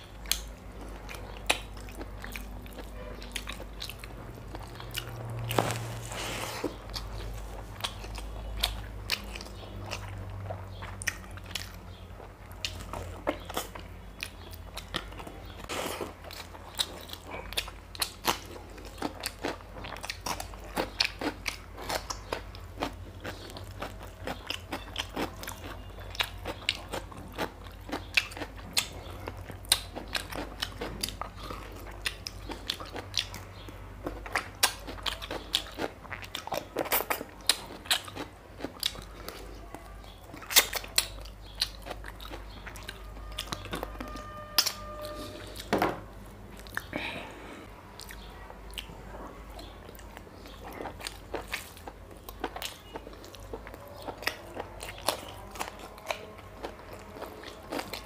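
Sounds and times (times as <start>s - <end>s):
chewing and mouth smacking: 0.0s - 5.9s, 6.6s - 45.7s, 46.5s - 47.0s, 47.9s - 58.0s
crunching cucumber bites: 0.1s - 45.7s, 49.6s - 58.0s.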